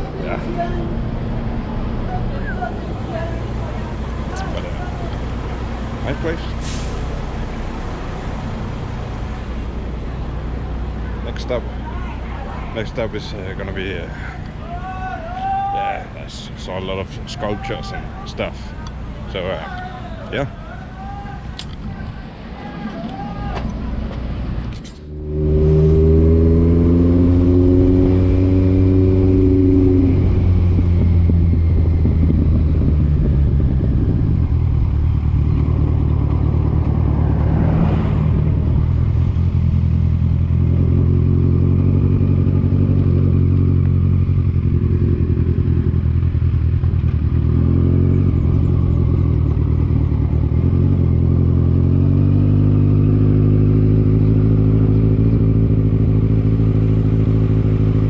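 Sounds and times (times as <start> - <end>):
vehicle engine running: 0.0 - 15.4, 16.2 - 58.0.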